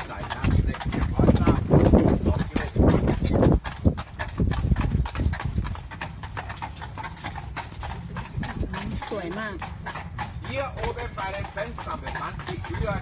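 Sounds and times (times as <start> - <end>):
horse hooves on cobblestones: 0.0 - 13.0
wagon rolling rumble: 0.0 - 13.0.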